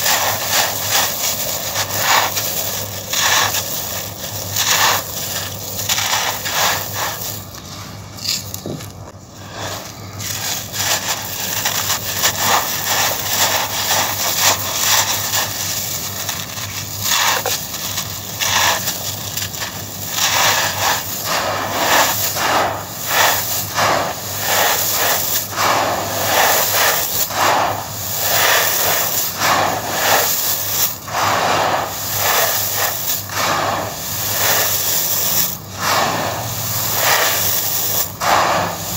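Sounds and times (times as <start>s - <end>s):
sand grains trickling: 0.0s - 8.6s, 9.2s - 38.9s
stony sand crunching in hands: 0.0s - 38.9s.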